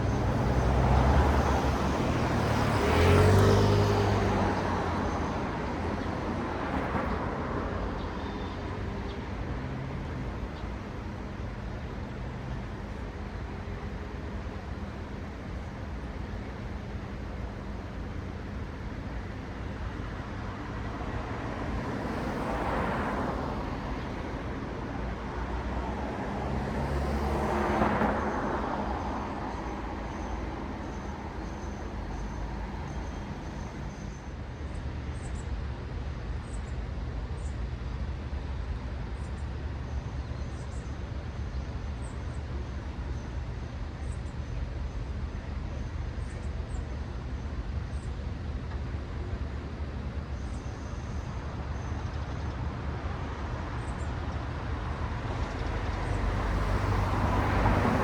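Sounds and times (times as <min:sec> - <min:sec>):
low traffic rumble: 0:00.0 - 0:58.0
vehicles passing by: 0:00.0 - 0:58.0.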